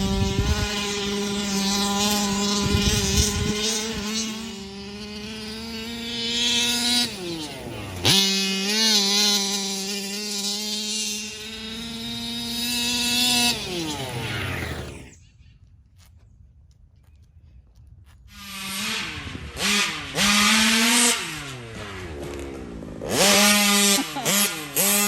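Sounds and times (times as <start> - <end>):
small two-stroke engine buzzing: 0.0 - 15.2, 18.3 - 25.0.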